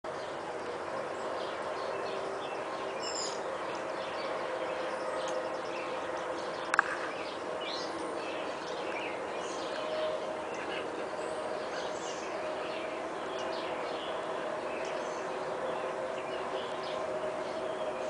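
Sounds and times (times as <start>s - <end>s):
steady low drone: 0.1s - 18.0s.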